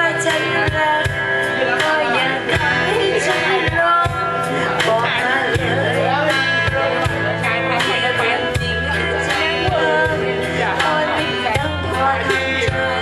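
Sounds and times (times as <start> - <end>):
background song with singer: 0.0 - 13.0.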